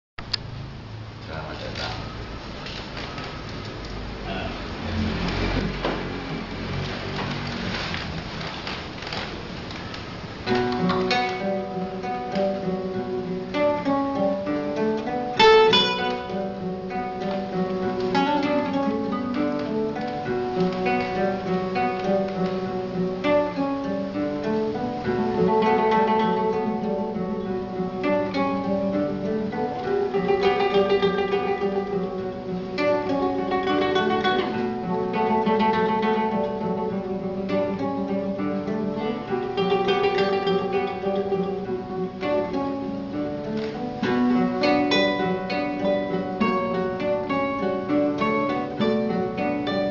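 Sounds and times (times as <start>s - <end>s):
acoustic guitar playing: 0.2s - 49.9s.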